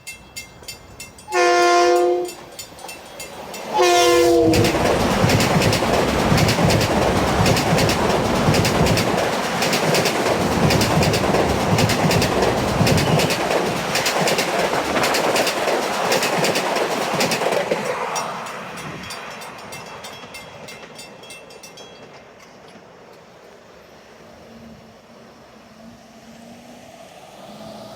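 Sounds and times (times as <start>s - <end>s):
train wheels clacking: 0.0s - 23.3s
train passing at speed: 0.0s - 27.9s.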